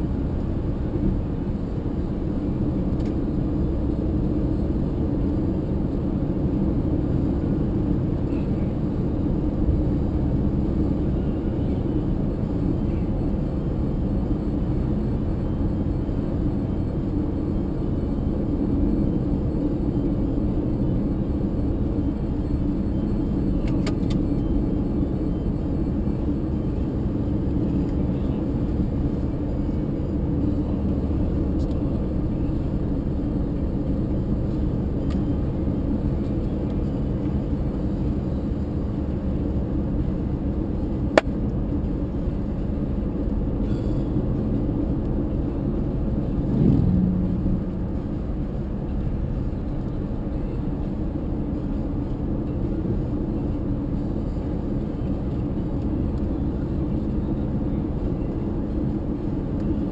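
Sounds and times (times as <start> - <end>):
car tyres and engine rumbling: 0.0 - 59.9.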